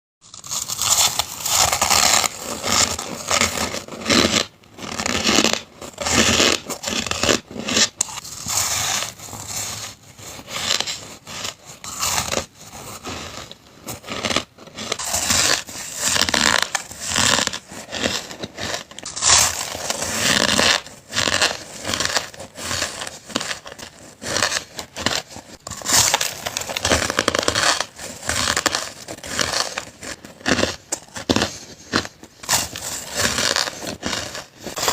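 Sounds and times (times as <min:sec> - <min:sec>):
ice being chewed: 0:00.2 - 0:34.9.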